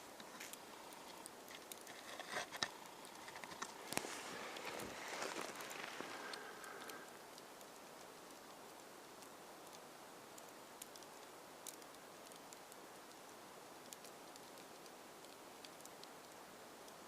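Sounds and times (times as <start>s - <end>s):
faint steady hiss: 0.0s - 17.0s
light ticks: 2.6s - 17.0s.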